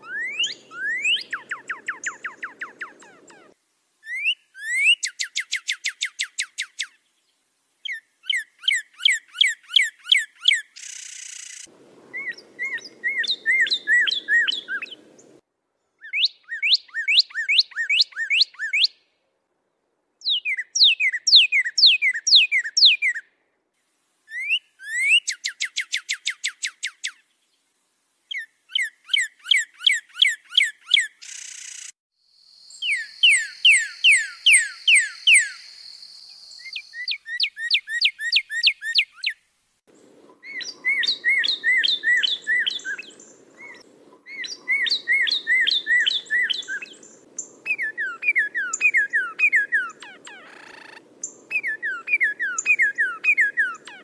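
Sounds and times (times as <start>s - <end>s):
songbird whistled song: 0.0s - 19.0s, 20.2s - 23.3s, 24.3s - 27.6s, 28.3s - 39.4s, 40.0s - 54.0s.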